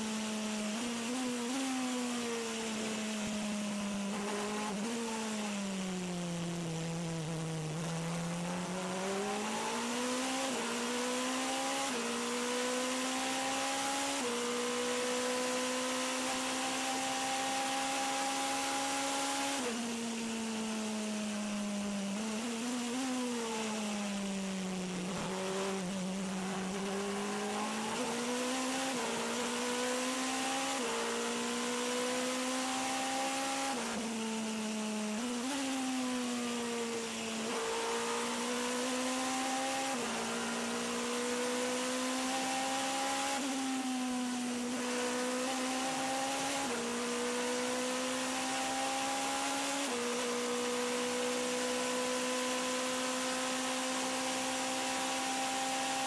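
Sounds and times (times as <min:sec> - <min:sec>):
racing engine at speed: 0:00.0 - 0:56.0.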